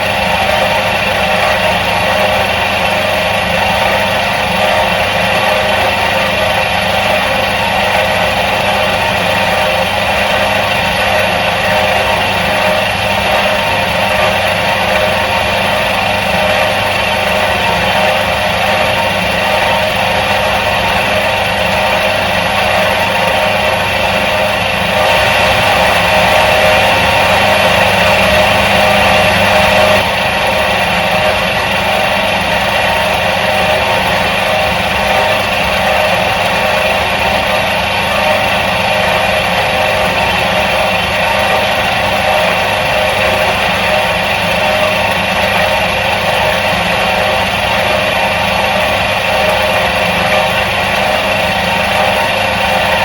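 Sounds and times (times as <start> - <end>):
washing machine motor humming: 0.0 - 53.0.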